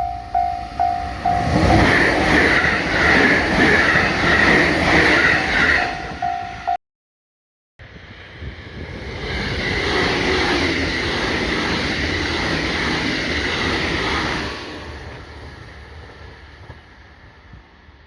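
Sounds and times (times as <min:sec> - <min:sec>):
train passing close by: 0:00.0 - 0:06.8, 0:07.8 - 0:18.0.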